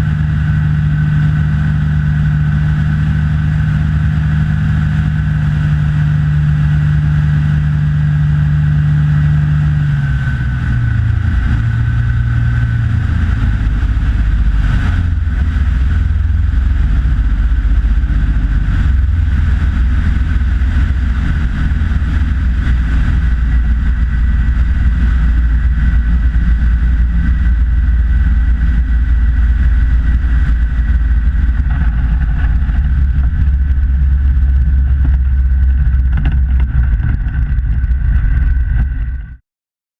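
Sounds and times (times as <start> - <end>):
light aircraft engine droning: 0.0 - 39.4.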